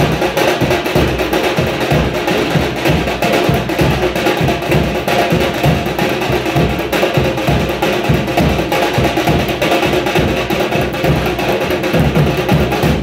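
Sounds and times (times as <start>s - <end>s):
drums playing rhythm: 0.0s - 13.0s.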